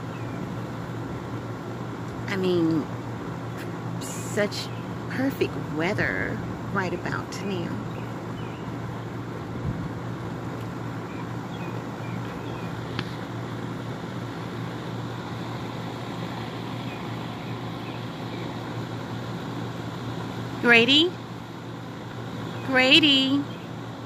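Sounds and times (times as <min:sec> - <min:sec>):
constant hiss: 0:00.0 - 0:24.0
low mechanical hum: 0:00.0 - 0:24.0.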